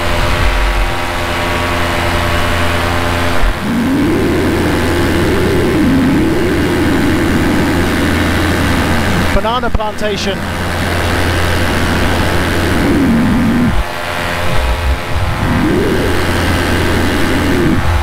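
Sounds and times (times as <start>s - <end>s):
low wavering hum: 0.0s - 9.4s, 10.4s - 18.0s
paramotor engine drone: 0.0s - 18.0s.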